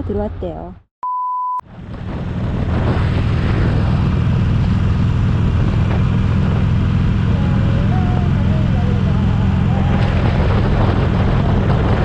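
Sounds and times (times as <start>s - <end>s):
motorcycle engine rumbling: 1.7s - 12.0s
wind noise: 1.7s - 12.0s.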